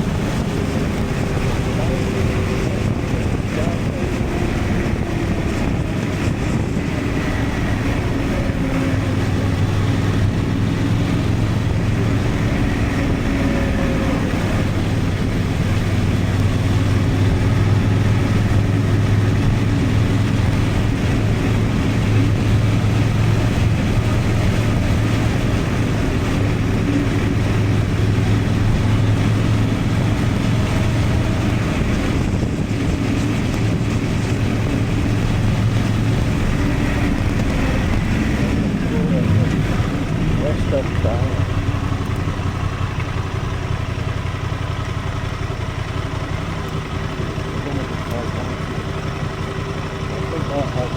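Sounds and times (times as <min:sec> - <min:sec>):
motorcycle engine cruising: 0:00.0 - 0:50.9
road and wind noise: 0:00.0 - 0:50.9.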